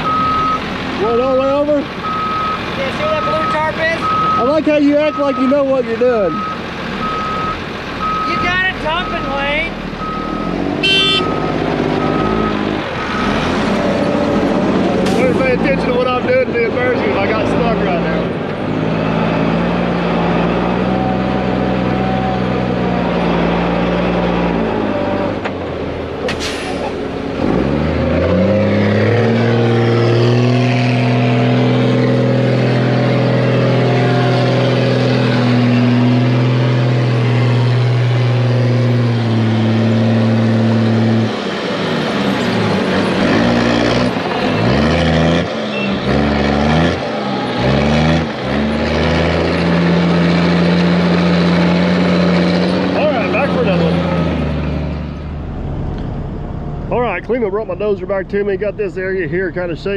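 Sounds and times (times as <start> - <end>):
diesel truck engine revving: 0.0 - 59.9.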